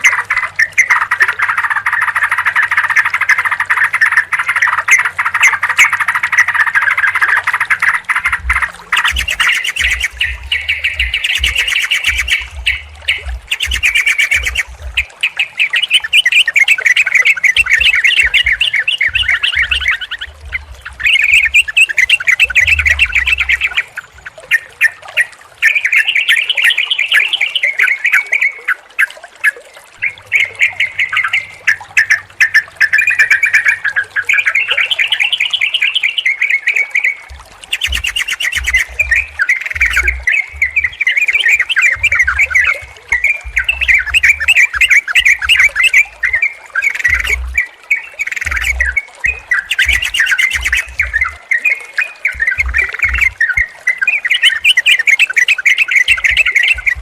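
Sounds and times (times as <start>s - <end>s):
bulbuls chattering and singing: 0.0s - 57.0s.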